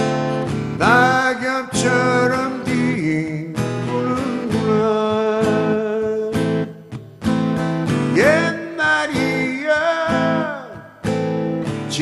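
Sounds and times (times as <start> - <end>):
strummed acoustic guitar: 0.0 - 12.0
man singing: 0.7 - 6.9, 8.0 - 12.0.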